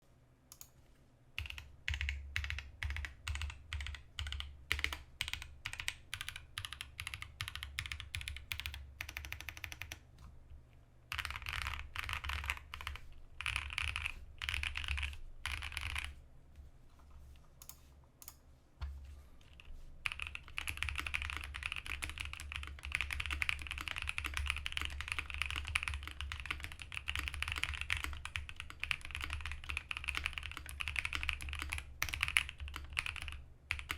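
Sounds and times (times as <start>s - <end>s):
mechanical keyboard typing: 1.4s - 10.0s, 11.1s - 16.1s, 20.0s - 33.9s.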